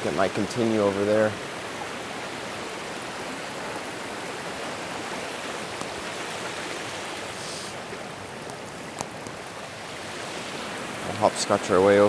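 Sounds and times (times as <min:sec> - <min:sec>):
fast-flowing stream rushing: 0:00.0 - 0:12.0.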